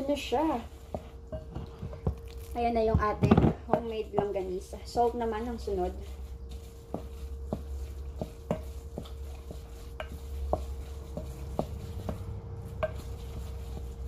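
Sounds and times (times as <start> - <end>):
steady low hum: 0.0 - 14.0
wooden spoon stirring mixture: 0.0 - 14.0.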